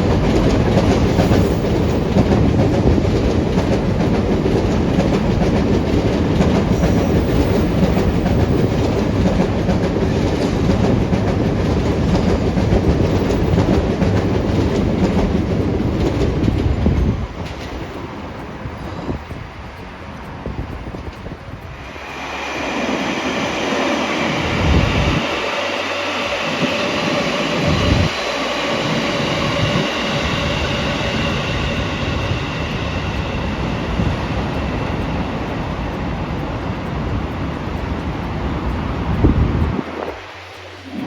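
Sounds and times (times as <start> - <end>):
train passing with whine: 0.0 - 41.0.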